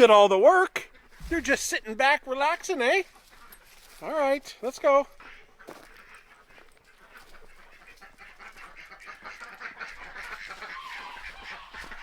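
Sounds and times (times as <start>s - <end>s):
ducks and geese honking and quacking: 0.8s - 12.0s.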